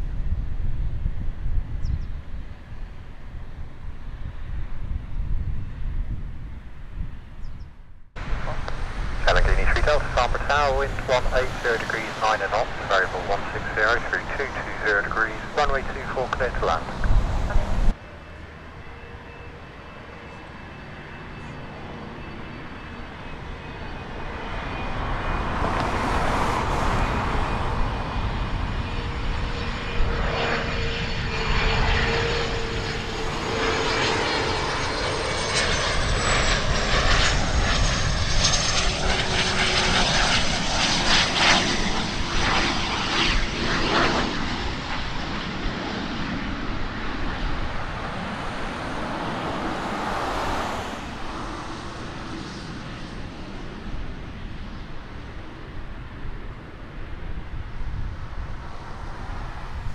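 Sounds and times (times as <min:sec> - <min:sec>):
jet engines whining: 0:08.2 - 0:59.9.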